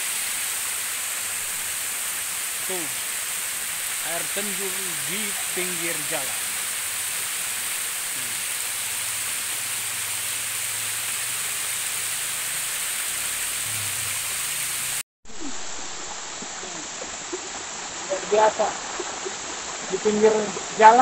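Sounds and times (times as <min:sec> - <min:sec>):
waterfall splashing onto rocks: 0:00.0 - 0:15.0, 0:15.9 - 0:21.0.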